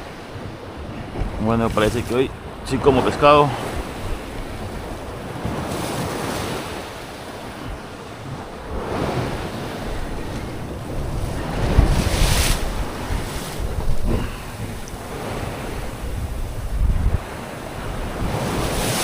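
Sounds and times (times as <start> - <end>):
sea waves washing in: 0.0 - 19.0
wind rumbling on microphone: 0.0 - 19.0.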